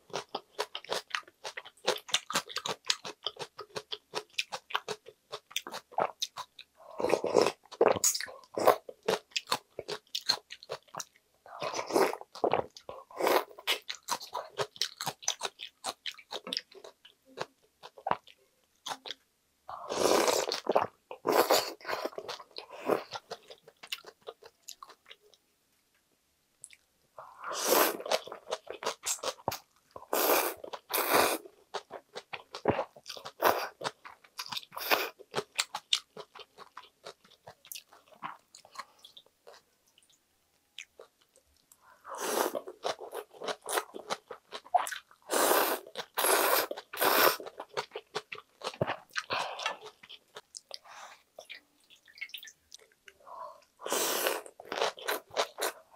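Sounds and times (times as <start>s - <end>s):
chewing and crunching food: 0.0s - 25.3s, 26.6s - 55.9s.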